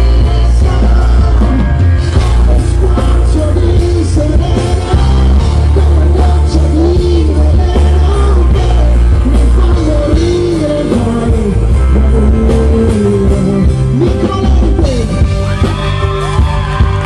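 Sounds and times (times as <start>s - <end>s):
man singing: 0.0s - 16.2s
electric guitar: 0.0s - 17.0s
heavy bass: 0.0s - 17.0s
keyboards: 0.0s - 17.0s.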